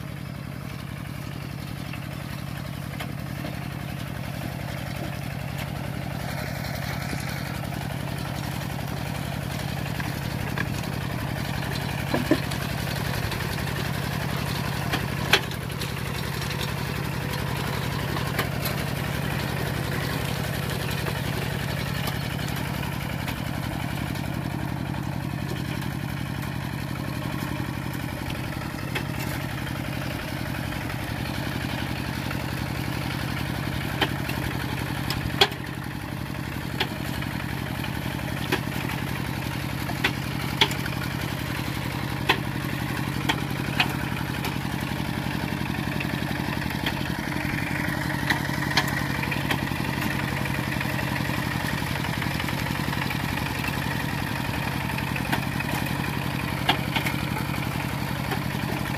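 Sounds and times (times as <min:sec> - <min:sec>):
diesel tractor engine running: 0:00.0 - 0:58.9.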